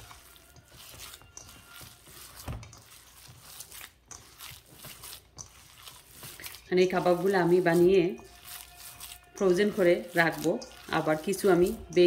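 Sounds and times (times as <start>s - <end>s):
hand kneading meat mixture: 0.0s - 12.0s.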